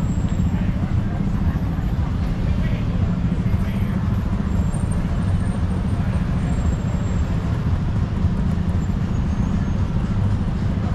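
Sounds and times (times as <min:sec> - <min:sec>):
city street traffic rumble: 0:00.0 - 0:10.9.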